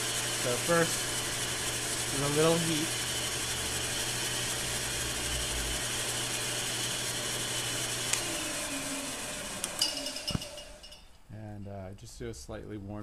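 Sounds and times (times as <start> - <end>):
heat gun blowing air: 0.0 - 10.6
motor winding down whine: 0.0 - 11.0
motor hum: 0.0 - 11.1.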